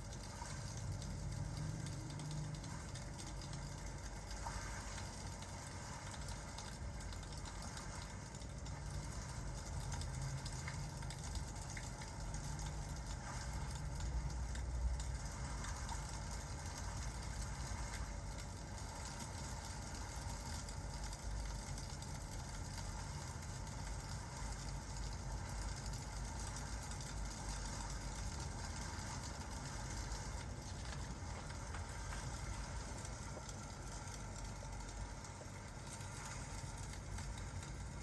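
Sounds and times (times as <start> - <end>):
fireplace crackling: 0.0 - 38.0
steady rain: 0.0 - 38.0.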